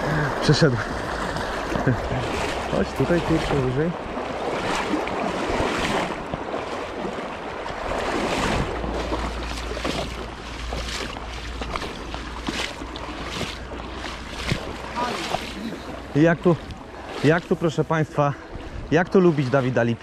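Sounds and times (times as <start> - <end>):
rushing river water: 0.0 - 20.0
splashes of wading: 0.0 - 20.0.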